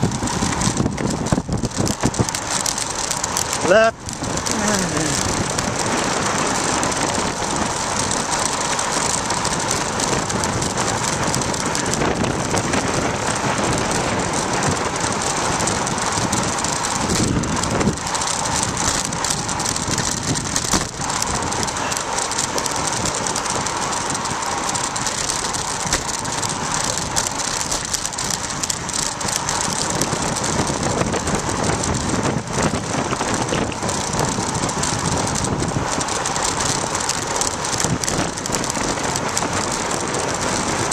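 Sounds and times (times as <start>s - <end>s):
tyre noise on asphalt: 0.0s - 40.9s
wind rushing over microphone: 0.0s - 40.9s.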